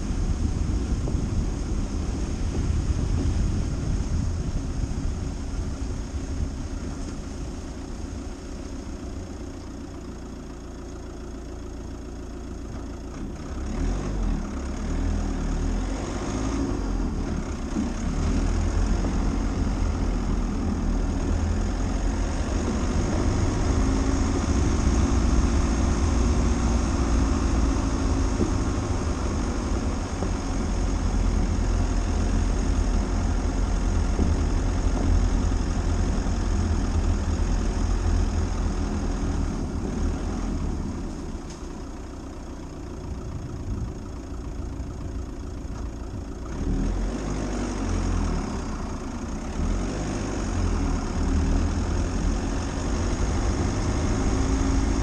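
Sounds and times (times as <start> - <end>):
car engine running: 0.0 - 55.0
road rumble: 0.0 - 55.0.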